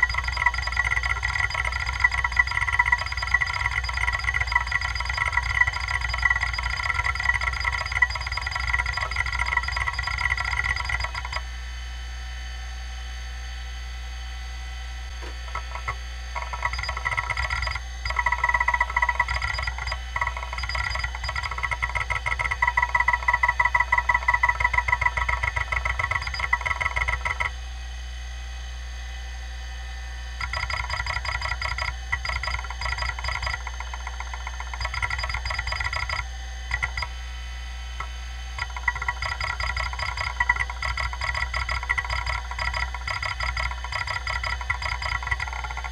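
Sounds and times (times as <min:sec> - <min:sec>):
hard drive head clicking: 0:00.0 - 0:11.4, 0:15.1 - 0:27.5, 0:30.4 - 0:37.1, 0:38.0 - 0:45.9
hard drive spindle humming: 0:00.0 - 0:45.9.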